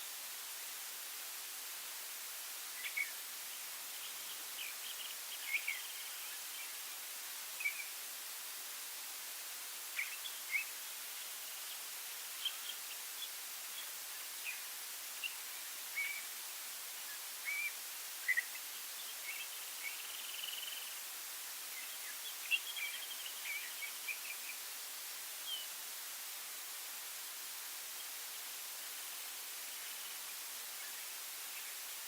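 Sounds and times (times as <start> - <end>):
steady background hiss: 0.0 - 32.0
songbirds chirping: 0.8 - 32.0.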